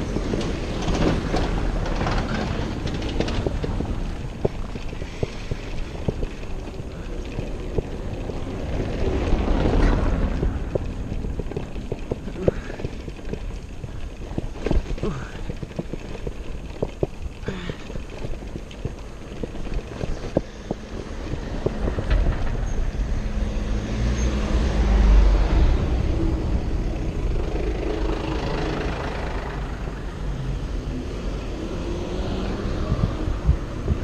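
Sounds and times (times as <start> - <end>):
vehicle passing: 0.0 - 14.4, 19.0 - 34.0
wind rumble on microphone: 0.0 - 34.0.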